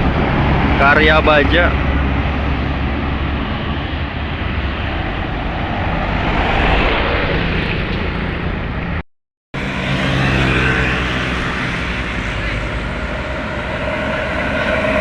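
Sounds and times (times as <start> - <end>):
bus passing by: 0.0 - 9.0, 9.6 - 15.0.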